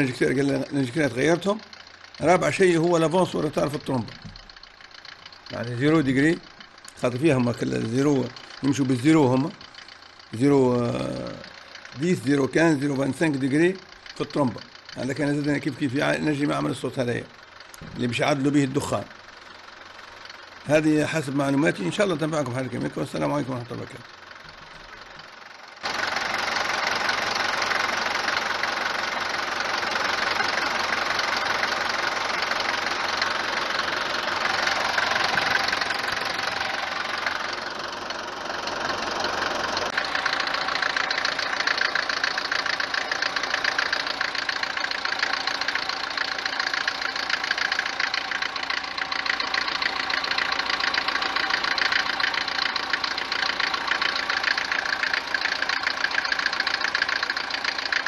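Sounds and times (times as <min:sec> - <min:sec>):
diesel engine idling with knocking: 0:00.0 - 0:58.0.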